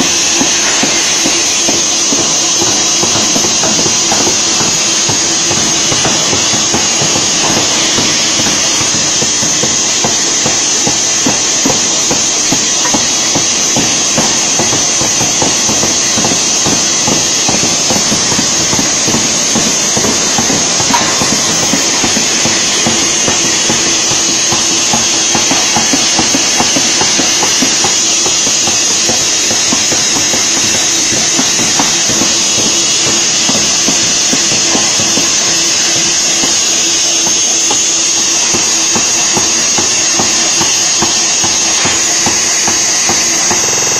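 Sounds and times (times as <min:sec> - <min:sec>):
forging hammer blows on steel: 0:00.0 - 0:43.9
high machinery whine: 0:00.0 - 0:43.9
steady hiss: 0:00.0 - 0:43.9.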